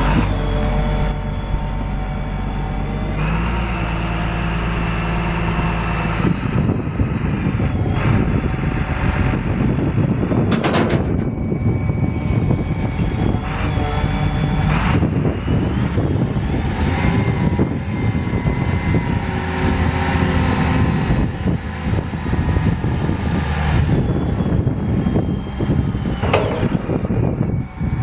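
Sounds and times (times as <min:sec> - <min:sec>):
diesel engine running under load: 0:00.0 - 0:28.0
faint whine shifting in pitch: 0:00.0 - 0:28.0.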